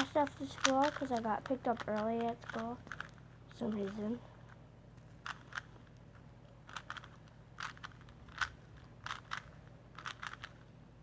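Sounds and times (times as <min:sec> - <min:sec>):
puzzle cube twisting clicks: 0:00.0 - 0:06.1, 0:06.7 - 0:10.6.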